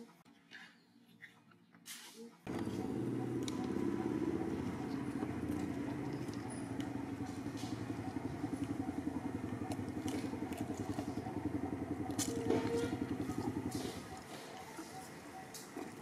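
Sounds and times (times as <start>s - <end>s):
engine idling: 2.5s - 16.0s.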